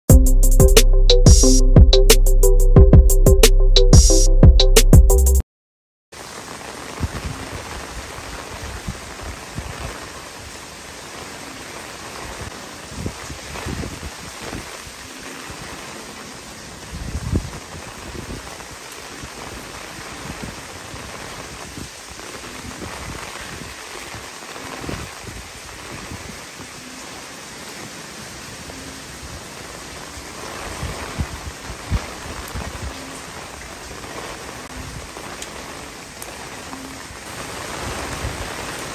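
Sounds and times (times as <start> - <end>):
rain falling on leaves: 6.1 - 38.9.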